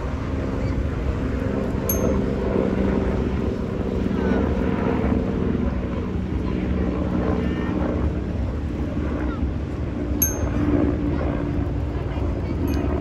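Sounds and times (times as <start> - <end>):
engine drone with low rumble: 0.0 - 13.0.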